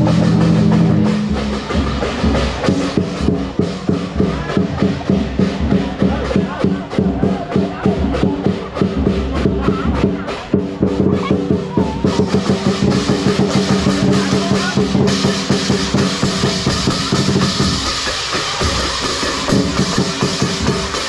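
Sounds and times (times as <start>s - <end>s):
cymbals clashing: 0.0s - 21.0s
drum beaten in fast rhythm: 0.0s - 21.0s.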